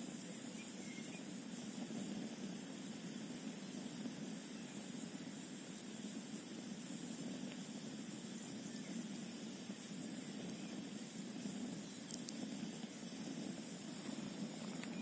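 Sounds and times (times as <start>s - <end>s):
burning wood crackling: 0.0s - 15.0s
wind: 0.0s - 15.0s.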